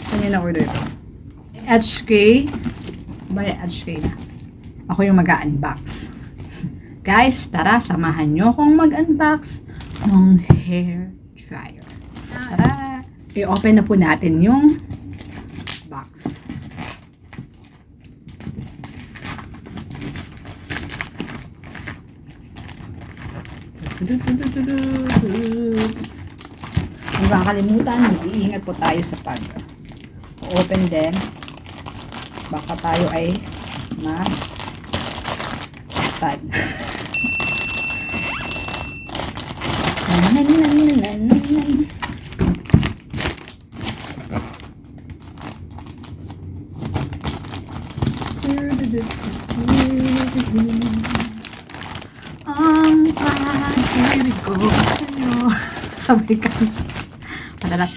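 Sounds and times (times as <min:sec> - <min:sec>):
packaging crinkling: 0:02.2 - 0:04.9, 0:11.8 - 0:13.7, 0:14.7 - 0:57.9.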